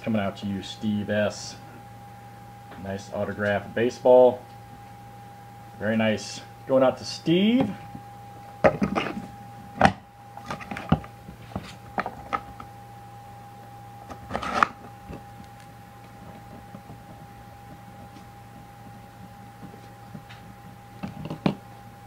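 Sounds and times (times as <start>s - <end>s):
faint electrical whine and hum: 0.0s - 22.0s.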